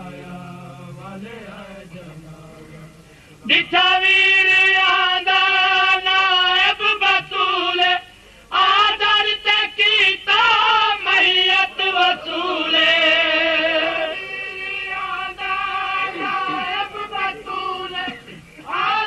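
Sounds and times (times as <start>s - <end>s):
person singing devotional song: 0.0s - 19.0s.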